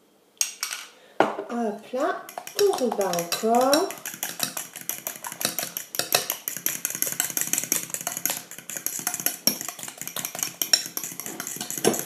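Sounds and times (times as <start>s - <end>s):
fork beating eggs in glass bowl: 2.0s - 12.0s.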